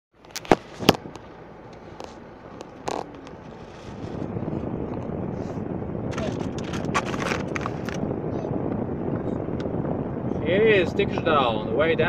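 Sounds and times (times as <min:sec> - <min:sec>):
road and tyre noise: 0:00.1 - 0:12.0.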